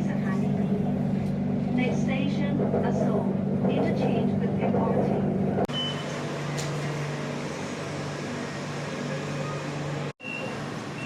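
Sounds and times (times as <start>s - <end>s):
metro train running noise: 0.0s - 11.0s.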